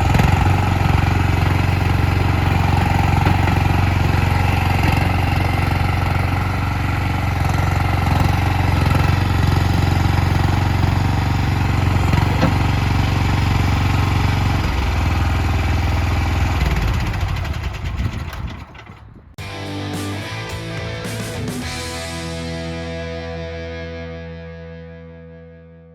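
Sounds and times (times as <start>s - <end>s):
loader engine running: 0.0s - 24.1s.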